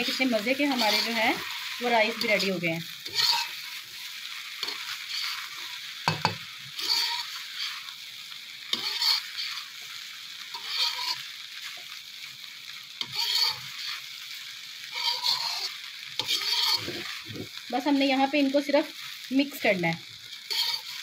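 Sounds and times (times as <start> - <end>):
metal spatula scraping wok: 0.0 - 17.8, 20.3 - 21.0
frying sizzle: 0.0 - 21.0.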